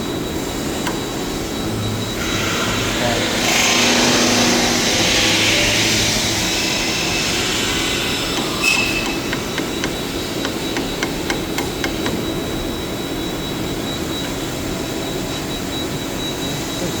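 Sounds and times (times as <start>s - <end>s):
machinery drone with high whine: 0.0s - 17.0s.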